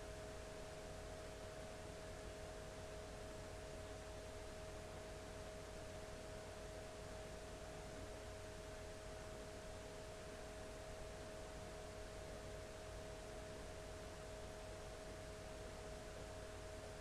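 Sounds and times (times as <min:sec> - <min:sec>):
faint two-tone hum: 0:00.0 - 0:17.0.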